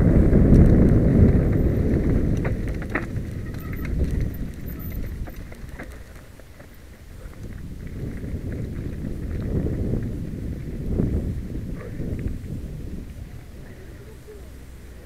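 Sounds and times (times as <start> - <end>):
bike rattling: 0.0 - 15.0
tyres crunching on gravel: 0.0 - 15.0
wind rumbling on microphone: 0.0 - 15.0.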